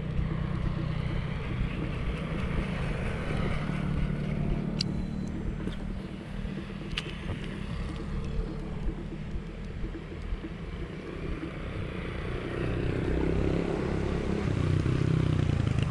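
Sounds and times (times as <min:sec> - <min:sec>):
motorcycle traffic engine hum: 0:00.0 - 0:15.9.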